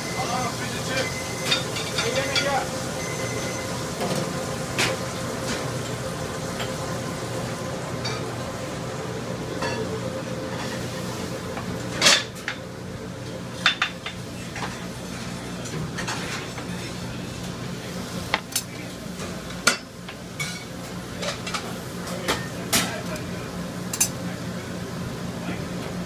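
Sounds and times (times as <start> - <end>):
kitchen equipment hum: 0.0 - 26.0.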